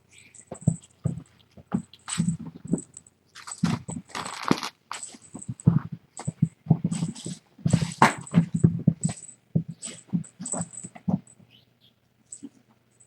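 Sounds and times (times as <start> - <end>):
kittens' paws thumping on floor: 0.4 - 11.6.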